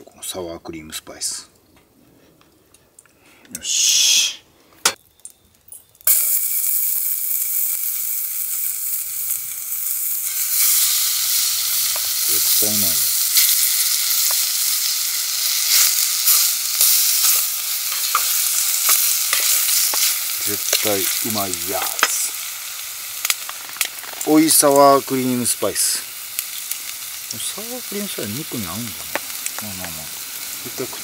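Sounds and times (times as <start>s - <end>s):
chicken sizzling in hot pan: 6.0s - 31.0s.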